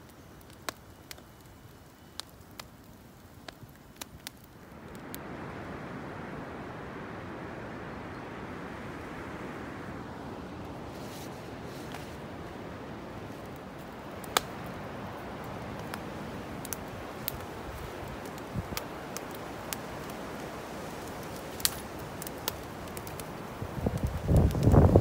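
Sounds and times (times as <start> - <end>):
campfire crackling and popping: 0.0 - 5.7, 6.7 - 25.0.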